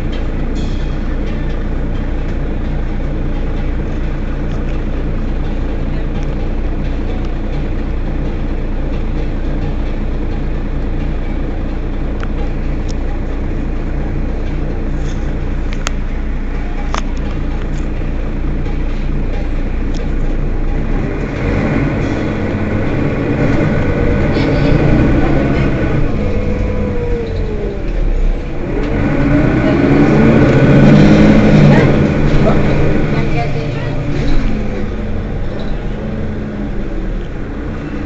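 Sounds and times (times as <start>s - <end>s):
bus engine running steadily: 0.0s - 38.0s.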